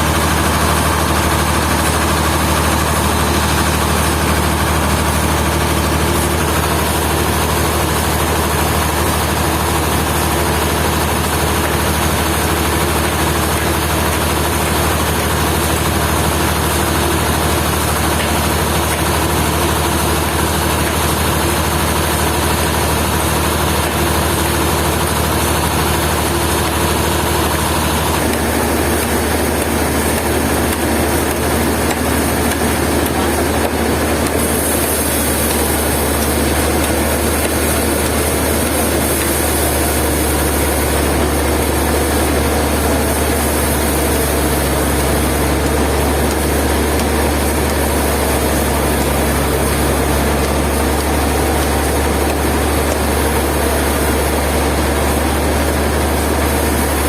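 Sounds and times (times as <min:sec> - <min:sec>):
sawmill engine humming: 0:00.0 - 0:57.0.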